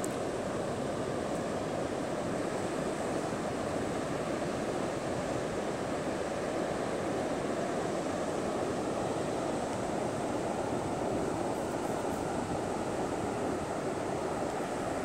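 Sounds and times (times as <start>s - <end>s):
heavy ocean surf rushing: 0.0s - 15.0s.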